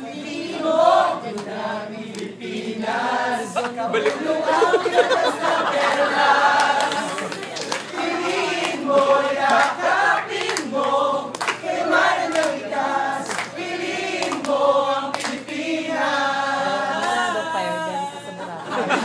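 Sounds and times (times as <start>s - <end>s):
group singing: 0.0s - 19.0s.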